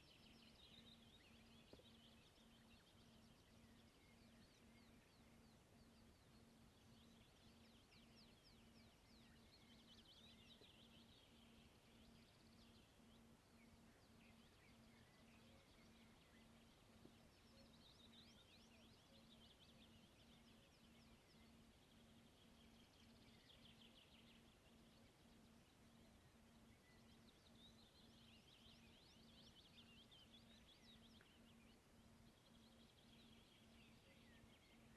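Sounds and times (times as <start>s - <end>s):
pulsing low hum: 0.0s - 34.9s
songbird singing: 0.0s - 34.9s.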